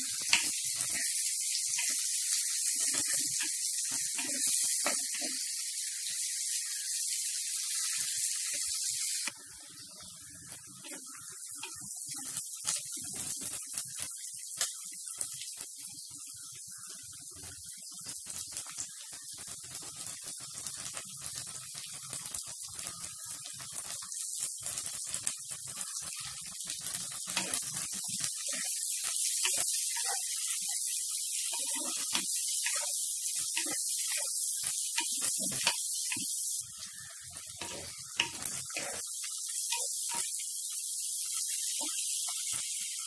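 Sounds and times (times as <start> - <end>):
vegetables sizzling in hot oil: 0.0 - 43.0.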